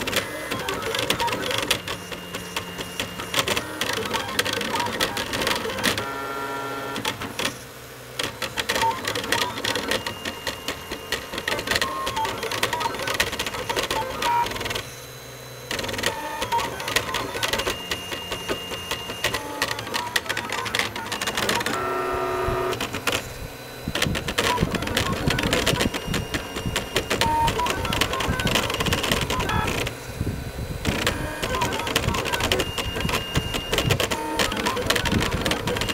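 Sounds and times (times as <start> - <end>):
stepper motors whining: 0.0 - 35.9.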